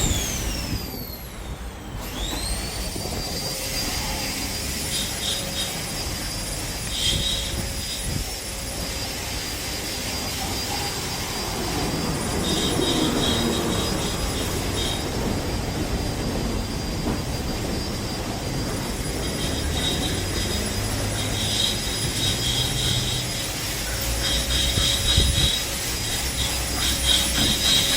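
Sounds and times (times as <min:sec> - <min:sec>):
steam machine hissing: 0:00.0 - 0:27.9.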